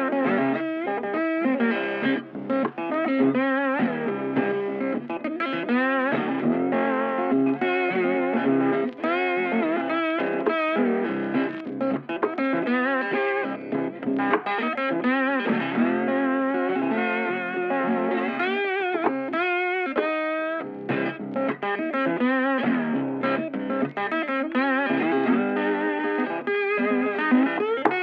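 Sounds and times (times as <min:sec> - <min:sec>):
guitar-led instrumental music: 0:00.0 - 0:28.0.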